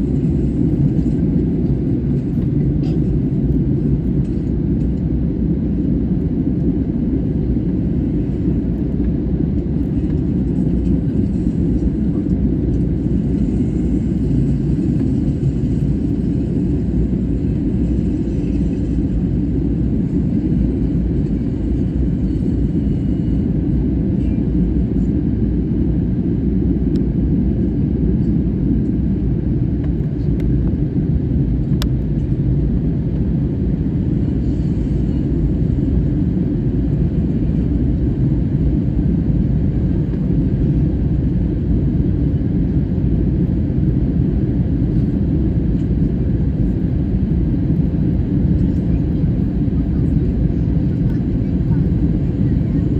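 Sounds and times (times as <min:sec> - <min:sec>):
jet airliner rumble: 0:00.0 - 0:52.9.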